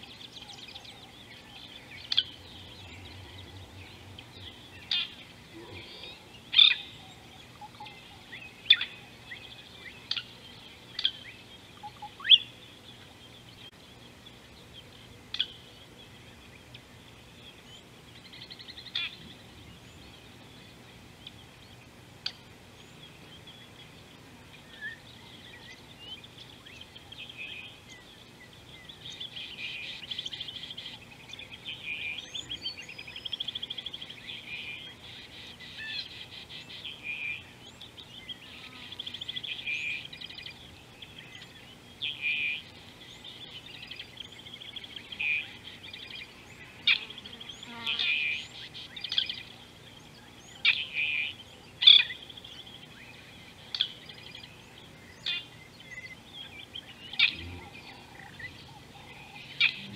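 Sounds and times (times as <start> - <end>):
birds chirping and trilling: 0.0 - 59.9
faint low hum: 0.0 - 59.9.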